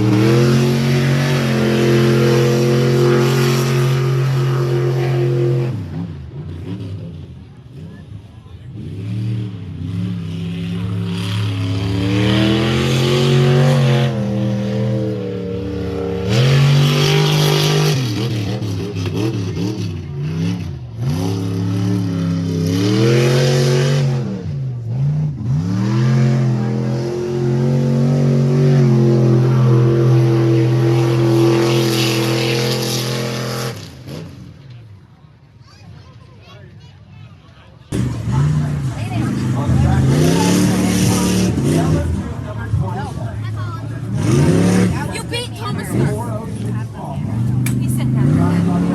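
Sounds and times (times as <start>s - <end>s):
truck engine revving hard: 0.0s - 34.6s, 37.9s - 48.9s.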